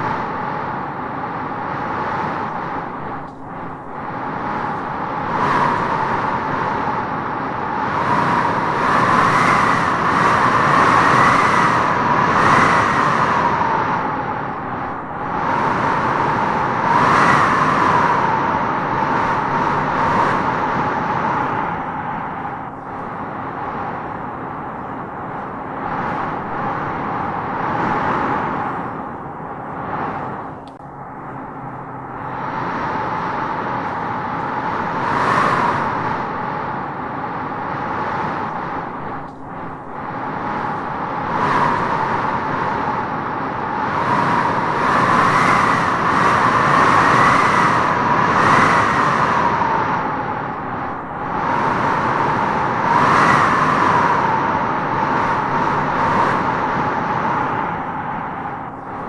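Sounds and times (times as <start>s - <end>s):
gusting wind howling: 0.0s - 59.0s.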